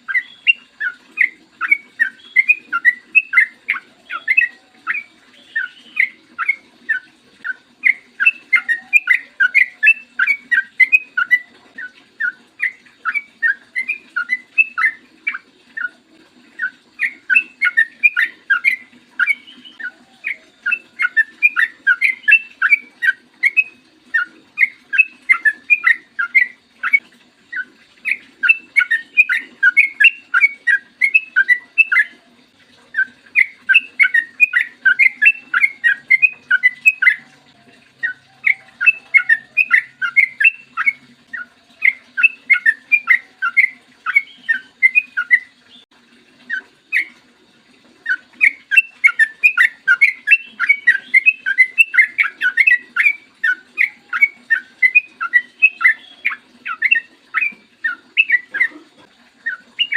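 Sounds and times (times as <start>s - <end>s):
bird singing chattering notes: 0.0s - 16.0s, 16.6s - 32.2s, 32.9s - 45.9s, 48.1s - 58.8s, 59.4s - 59.9s.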